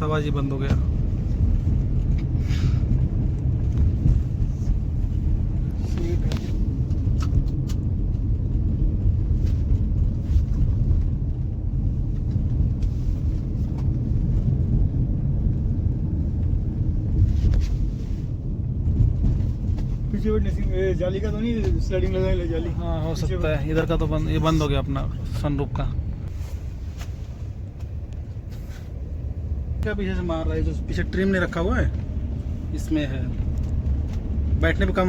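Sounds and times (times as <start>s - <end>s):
road and engine rumble: 0.0s - 35.0s.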